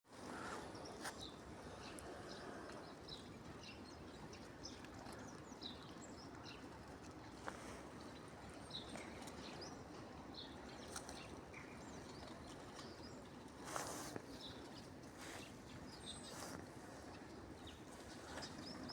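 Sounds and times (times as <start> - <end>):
songbirds chirping: 0.1 - 18.9.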